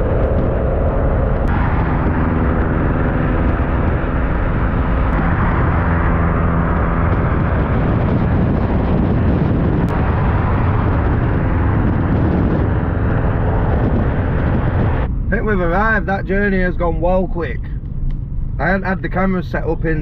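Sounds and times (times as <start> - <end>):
car engine droning: 0.0 - 20.0
road noise: 0.0 - 20.0.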